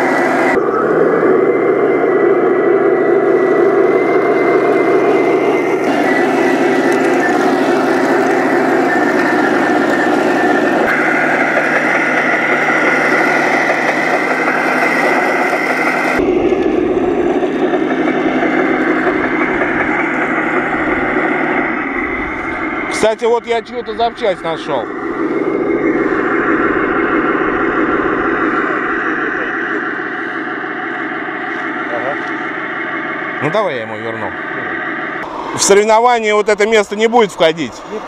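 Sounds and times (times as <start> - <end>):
drive motors and gears whining: 0.0 - 38.0
model tank engine drone: 0.0 - 38.0.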